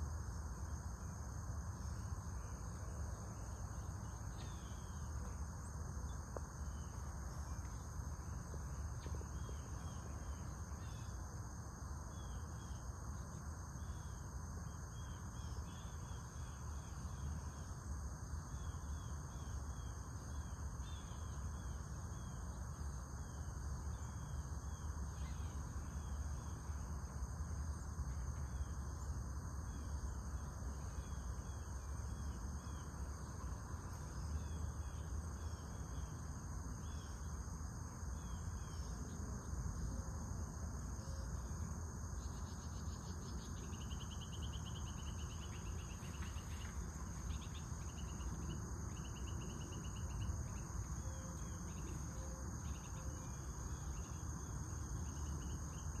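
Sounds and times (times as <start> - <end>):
constant low rumble: 0.0 - 56.0
insects trilling: 0.0 - 56.0.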